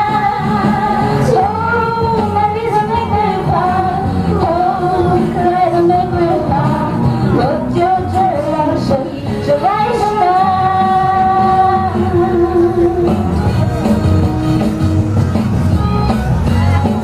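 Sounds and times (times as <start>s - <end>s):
pop music over loudspeakers: 0.0s - 17.0s.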